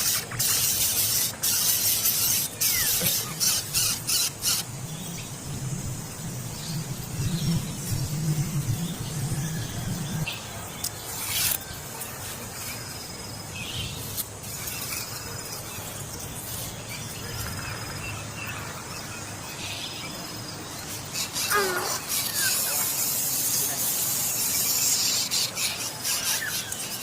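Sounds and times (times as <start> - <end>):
insects: 0.0 - 27.0.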